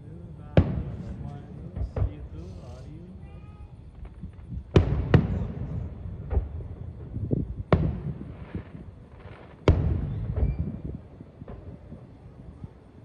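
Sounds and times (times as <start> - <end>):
fireworks shells booming: 0.0 - 13.0.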